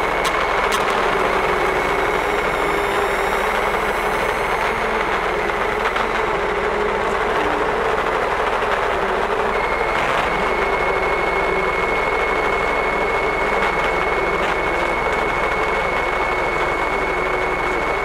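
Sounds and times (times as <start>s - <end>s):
dense noise drone: 0.0s - 18.0s.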